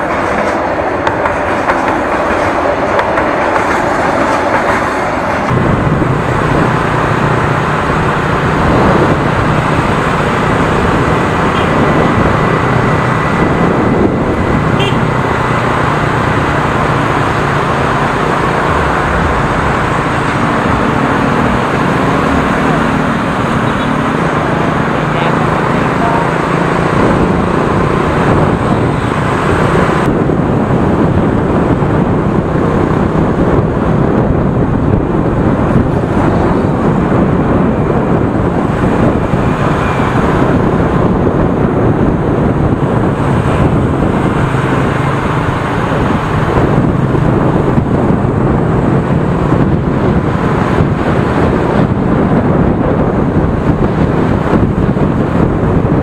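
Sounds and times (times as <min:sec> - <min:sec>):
wind on microphone: 0:00.0 - 0:56.0
motorbike engines running: 0:05.5 - 0:56.0.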